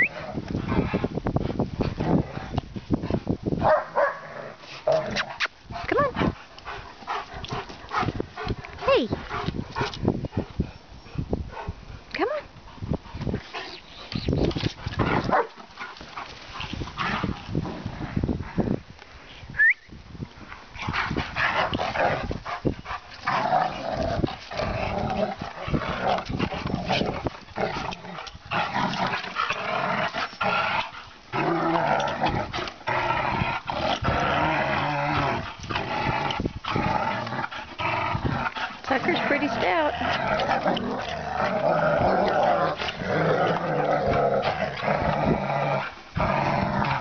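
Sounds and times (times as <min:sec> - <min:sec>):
dogs growling: 0:00.0 - 0:03.2, 0:04.1 - 0:18.8, 0:20.7 - 0:47.0.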